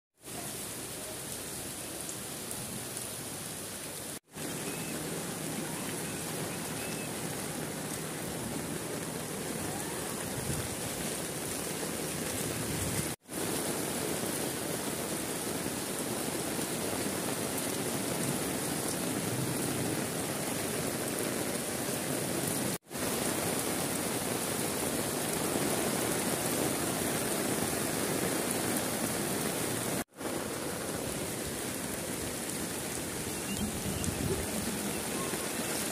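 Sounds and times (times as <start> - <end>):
heavy rain pouring: 0.2 - 35.9.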